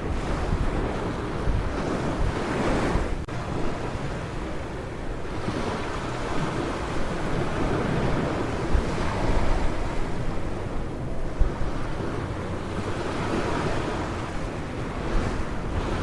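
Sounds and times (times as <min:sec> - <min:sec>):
ocean surf on a beach: 0:00.0 - 0:16.0
wind rumbling on microphone: 0:00.0 - 0:16.0.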